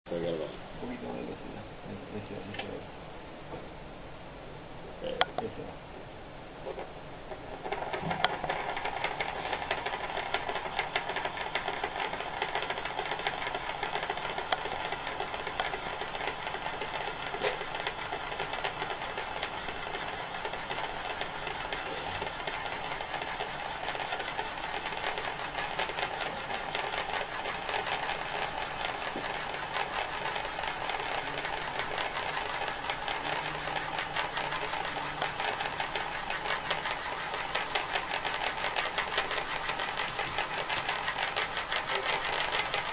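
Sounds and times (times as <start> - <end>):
metal ring spinning on glass: 6.8 - 42.9.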